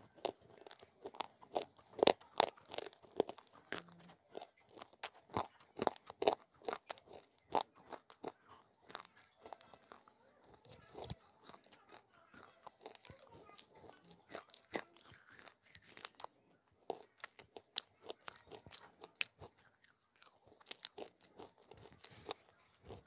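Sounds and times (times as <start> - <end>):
crunchy chewing: 0.0 - 23.0.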